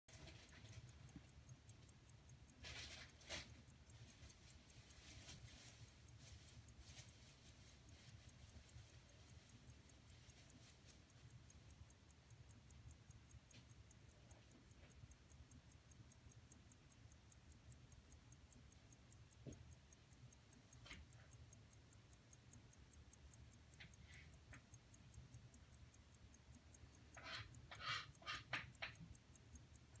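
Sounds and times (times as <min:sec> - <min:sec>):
watch ticking: 0:00.1 - 0:30.0.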